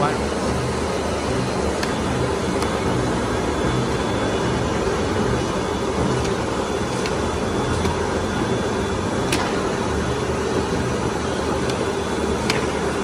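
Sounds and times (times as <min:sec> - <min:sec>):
steady hum: 0:00.0 - 0:13.0
veneer peeling lathe running: 0:00.0 - 0:13.0.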